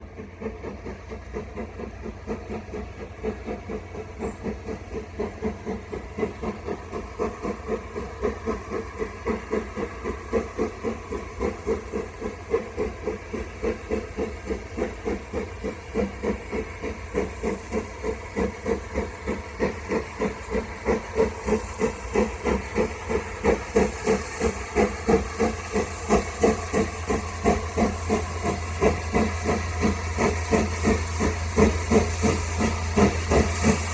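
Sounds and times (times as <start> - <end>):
steam locomotive exhaust beats: 0.0 - 33.9
steam hiss: 0.2 - 33.9.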